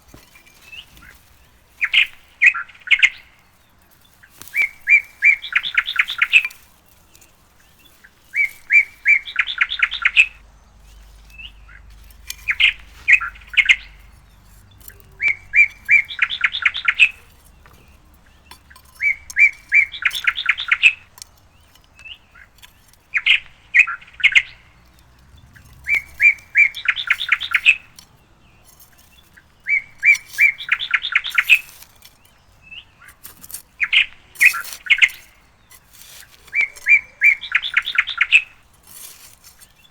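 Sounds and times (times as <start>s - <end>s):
songbird singing with trill: 0.0s - 39.0s.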